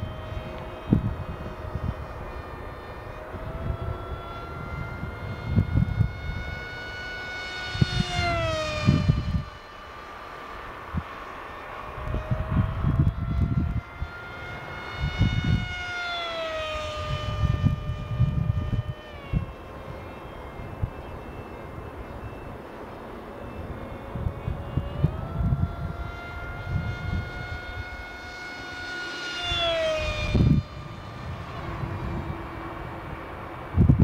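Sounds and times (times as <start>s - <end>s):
electric motor and propeller whining: 0.0s - 34.0s
wind rumble on microphone: 0.0s - 34.0s.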